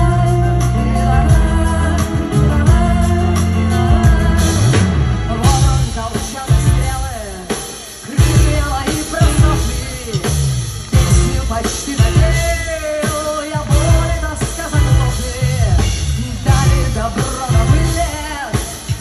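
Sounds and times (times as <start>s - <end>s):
live rock band playing: 0.0s - 19.0s
woman singing: 0.0s - 19.0s.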